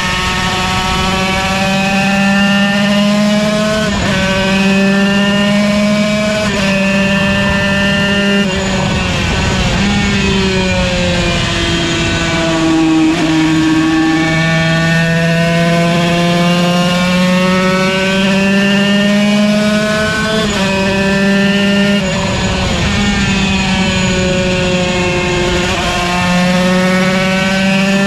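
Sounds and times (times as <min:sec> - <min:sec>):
two-stroke racing engine revving: 0:00.0 - 0:28.0.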